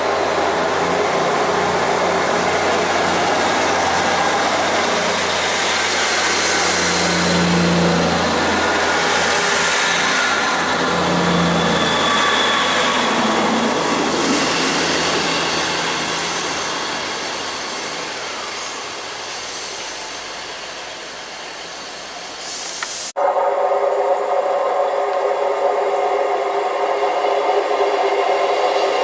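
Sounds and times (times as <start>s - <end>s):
train engine hum and rumble: 0.0s - 29.0s.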